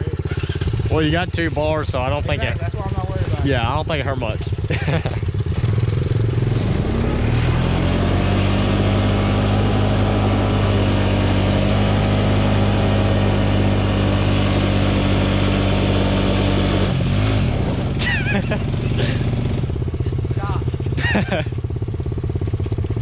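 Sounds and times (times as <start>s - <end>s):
small motorbike engine revving: 0.0s - 23.0s.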